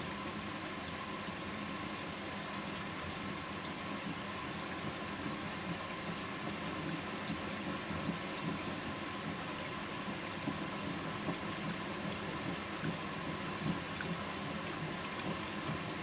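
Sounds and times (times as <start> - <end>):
faint machine hum: 0.0 - 16.0
water rushing into washing machine: 0.0 - 16.0.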